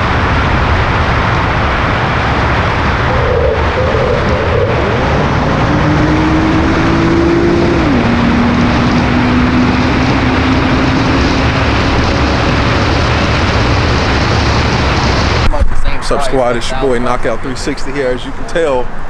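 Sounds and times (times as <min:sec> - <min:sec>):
car engine: 0:00.0 - 0:19.0
road and wind noise: 0:00.0 - 0:19.0.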